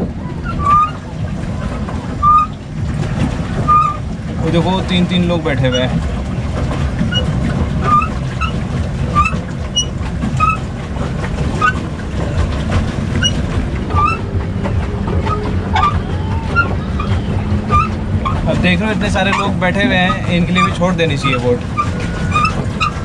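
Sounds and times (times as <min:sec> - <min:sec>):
boat engine rumble: 0:00.0 - 0:23.0.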